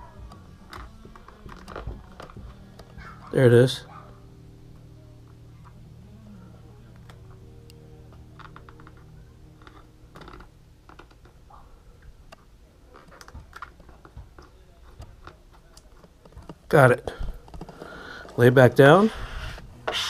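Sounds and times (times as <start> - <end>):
faint low hum: 0.0 - 19.9.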